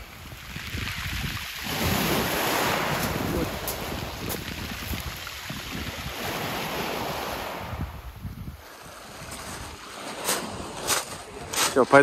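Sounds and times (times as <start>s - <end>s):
wind buffeting microphone: 0.0s - 11.7s
small waves washing onto pebbles: 0.0s - 12.0s.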